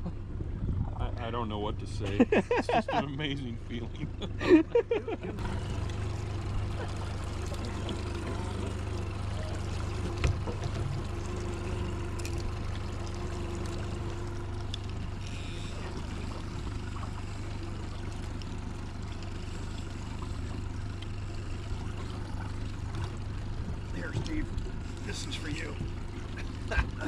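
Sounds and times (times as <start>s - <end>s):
boat motor droning: 0.0s - 27.0s.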